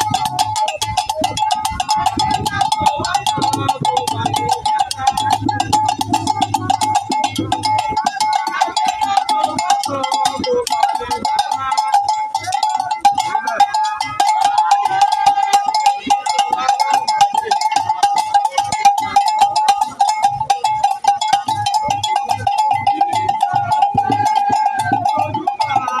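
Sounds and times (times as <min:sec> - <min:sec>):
crowd chanting: 0:00.0 - 0:26.0.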